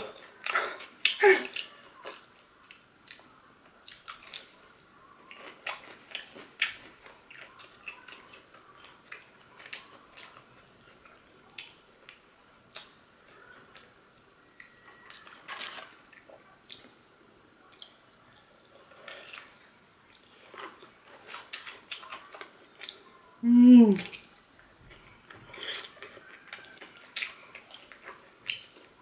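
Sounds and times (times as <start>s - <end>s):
chewing crunchy food: 0.0s - 23.2s, 24.1s - 29.0s.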